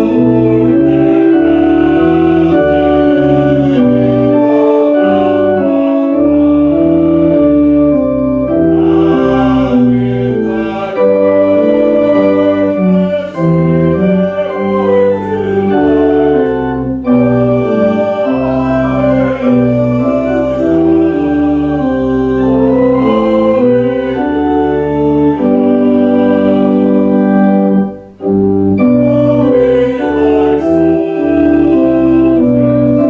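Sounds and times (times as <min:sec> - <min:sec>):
organ playing a hymn: 0:00.0 - 0:33.0.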